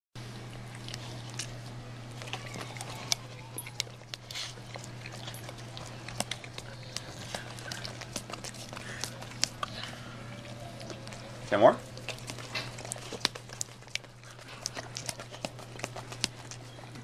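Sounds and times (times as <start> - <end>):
steady low hum: 0.2 - 17.0
dog licking and lip smacking: 0.4 - 17.0.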